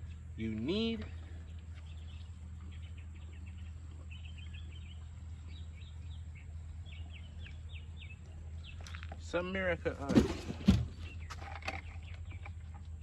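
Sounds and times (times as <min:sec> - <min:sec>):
low background hum: 0:00.0 - 0:13.0
small birds chirping: 0:00.0 - 0:13.0.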